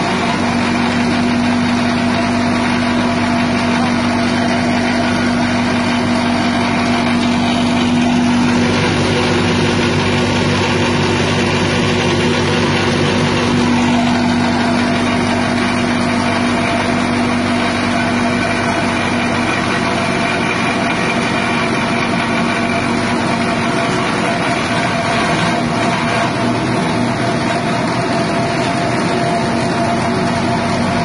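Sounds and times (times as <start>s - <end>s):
grass chopper engine running: 0.0s - 31.0s.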